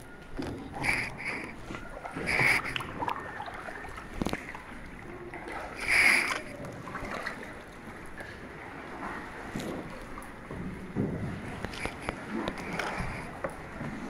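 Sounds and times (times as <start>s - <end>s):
water lapping and sloshing: 0.0s - 14.0s.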